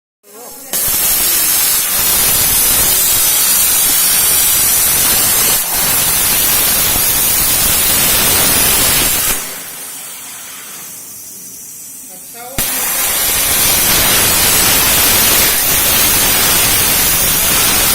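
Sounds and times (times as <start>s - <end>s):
plasma cutter torch hissing: 0.3s - 17.9s.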